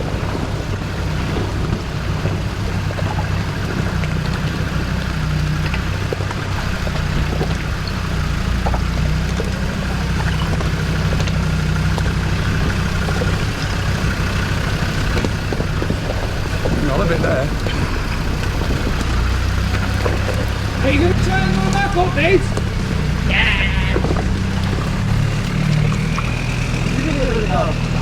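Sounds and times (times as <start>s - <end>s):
engine running at low revs: 0.0s - 28.0s.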